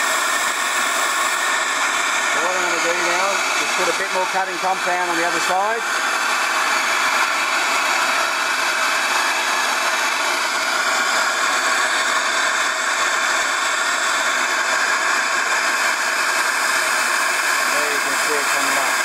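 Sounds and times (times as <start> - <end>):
dust extractor and grinder rushing: 0.0 - 19.0.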